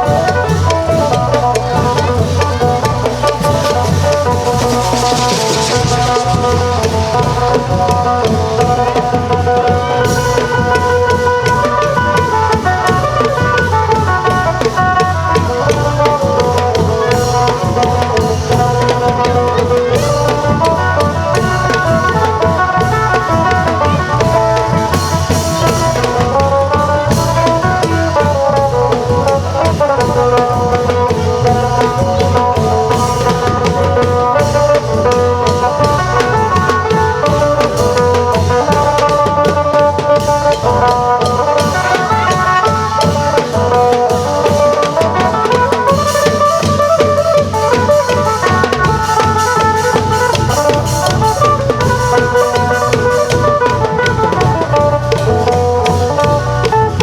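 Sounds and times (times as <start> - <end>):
long drums playing rhythm: 0.0 - 57.0
lute melody: 0.0 - 57.0.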